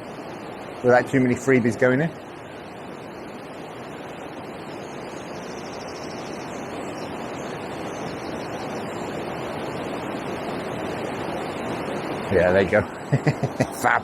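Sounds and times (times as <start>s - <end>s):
water rushing over weir: 0.0s - 14.0s.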